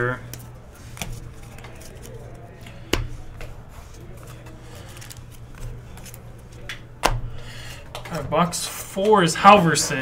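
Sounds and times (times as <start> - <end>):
cards rustling: 0.0 - 8.2.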